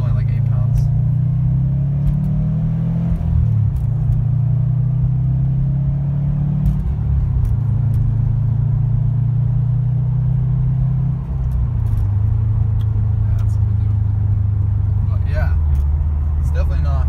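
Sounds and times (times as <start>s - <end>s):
car engine drone from inside cabin: 0.0s - 17.0s.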